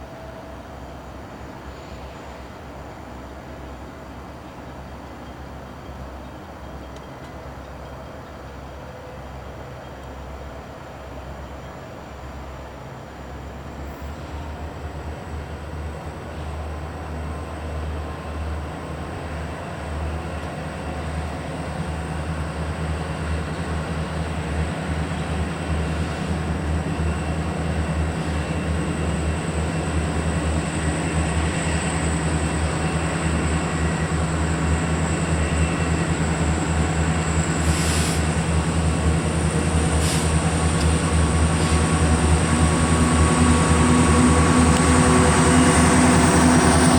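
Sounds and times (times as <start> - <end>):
diesel locomotive engine rumbling: 0.0 - 46.9.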